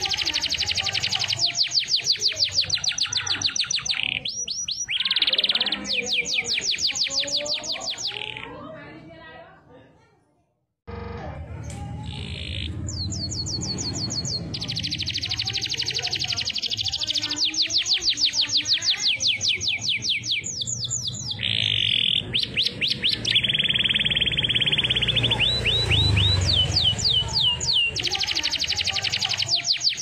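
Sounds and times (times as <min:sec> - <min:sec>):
canary singing: 0:00.0 - 0:08.8, 0:10.9 - 0:30.0.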